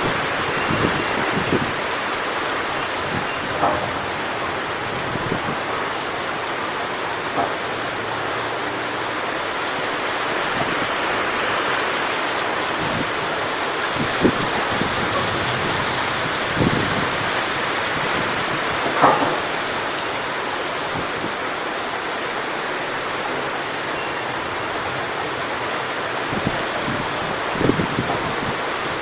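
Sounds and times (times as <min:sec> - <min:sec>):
wind through palm fronds: 0:00.0 - 0:29.0.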